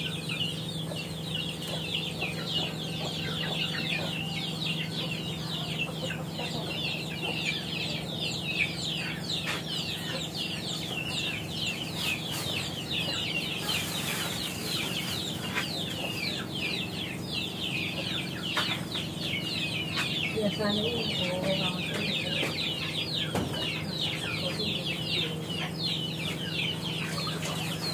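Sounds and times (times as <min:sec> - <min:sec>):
chicks peeping: 0:00.0 - 0:27.9
steady low hum: 0:00.0 - 0:27.9.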